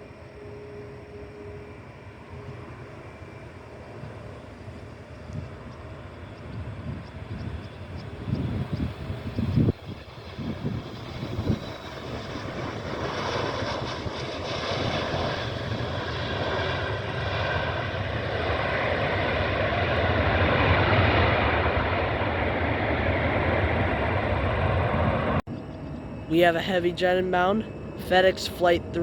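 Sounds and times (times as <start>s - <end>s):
faint engine whine: 0.0s - 29.0s
jet airliner engine roar: 0.0s - 29.0s.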